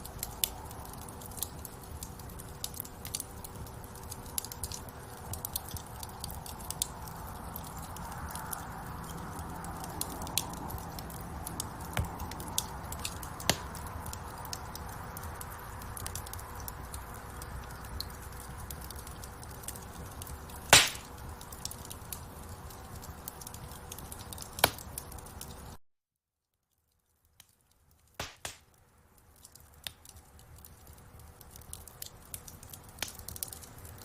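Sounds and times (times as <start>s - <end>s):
wood fire crackling and popping: 0.0s - 25.8s, 26.7s - 34.0s.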